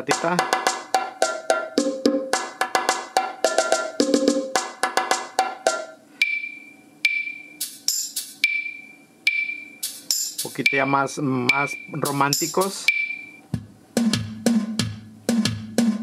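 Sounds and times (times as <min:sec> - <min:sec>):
percussion loop: 0:00.0 - 0:16.0.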